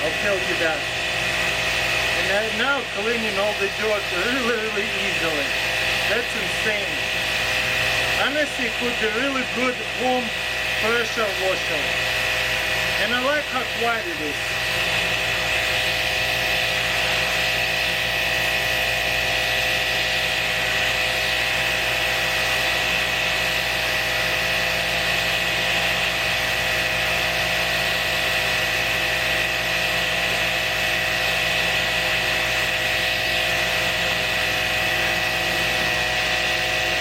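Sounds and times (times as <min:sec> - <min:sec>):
pressure washer motor whine: 0:00.0 - 0:37.0.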